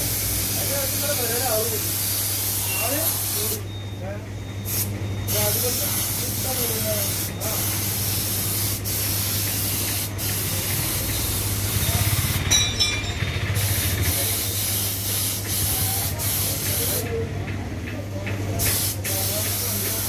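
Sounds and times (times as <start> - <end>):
paint spray gun hissing: 0.0 - 3.6, 4.7 - 12.3, 13.6 - 17.1, 18.6 - 20.0.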